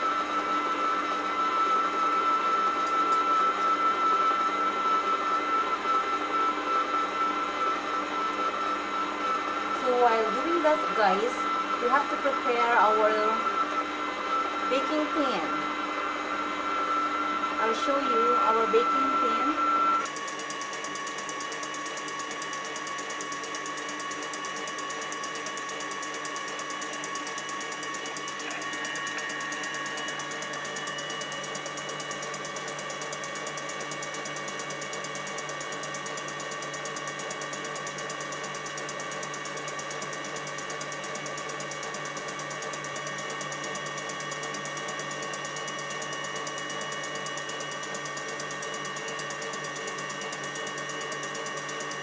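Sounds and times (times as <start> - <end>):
electric mixer whining: 0.0 - 52.0.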